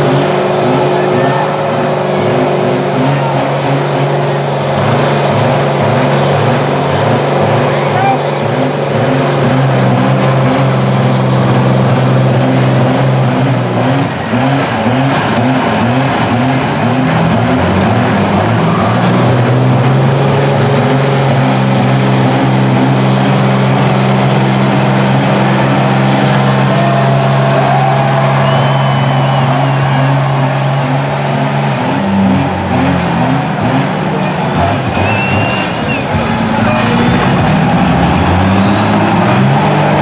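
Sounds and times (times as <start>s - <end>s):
truck engines revving: 0.0s - 40.0s
tyres churning mud: 0.0s - 40.0s.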